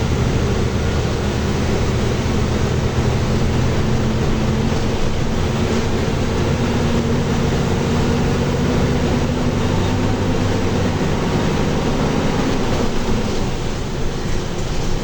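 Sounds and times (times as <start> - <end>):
bus diesel engine running: 0.0 - 15.0
road noise: 0.0 - 15.0.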